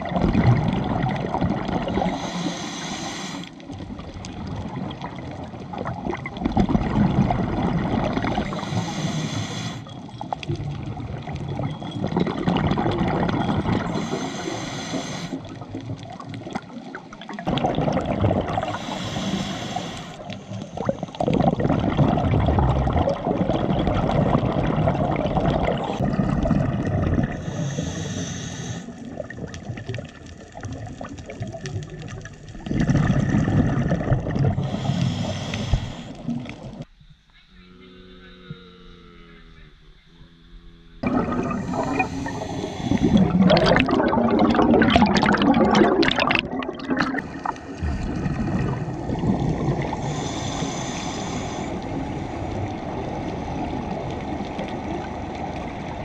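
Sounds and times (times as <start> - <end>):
diver exhaling bubbles: 0.0 - 36.9, 37.6 - 55.1
muffled rumble of moving water: 0.0 - 56.0.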